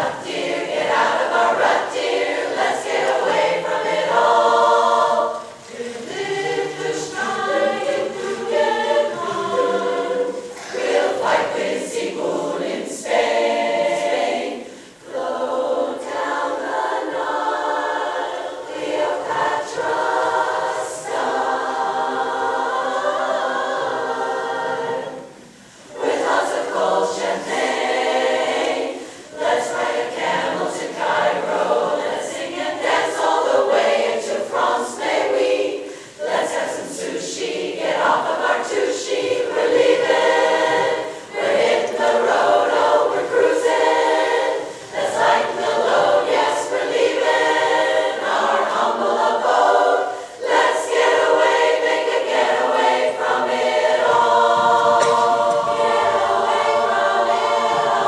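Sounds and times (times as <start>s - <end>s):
women's chorus singing a cappella: 0.0s - 58.0s.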